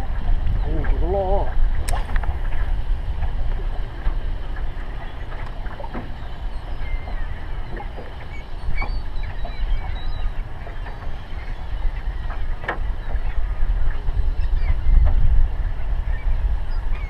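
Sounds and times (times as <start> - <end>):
wind and water rumble: 0.0 - 17.0
gulls calling: 0.6 - 17.0.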